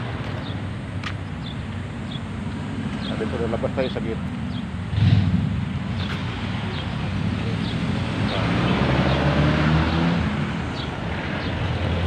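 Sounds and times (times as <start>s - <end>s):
street traffic: 0.0s - 12.0s
vehicle engine humming: 0.0s - 12.0s.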